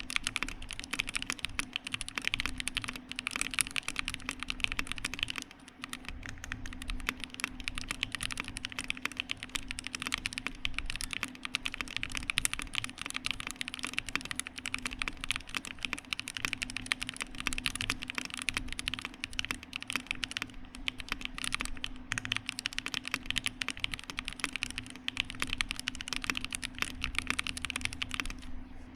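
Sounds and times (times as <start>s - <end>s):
mechanical keyboard typing: 0.0s - 28.6s.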